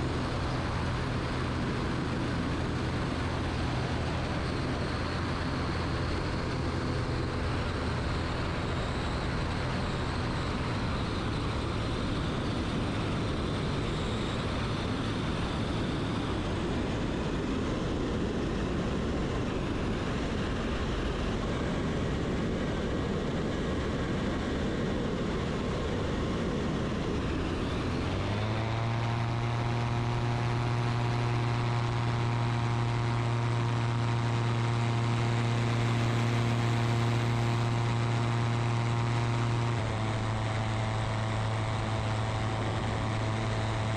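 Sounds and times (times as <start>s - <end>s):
light aircraft engine and propeller: 0.0s - 43.9s.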